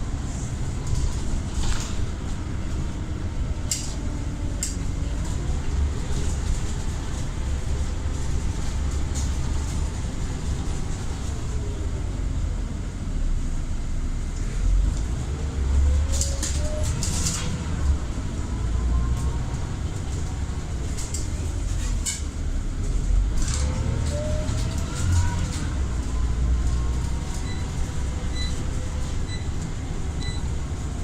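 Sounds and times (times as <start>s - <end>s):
bus engine rumble: 0.0s - 31.0s.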